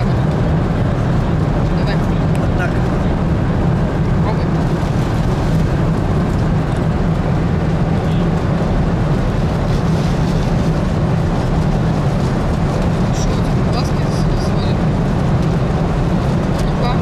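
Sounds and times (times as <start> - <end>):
airliner cabin drone: 0.0 - 17.0.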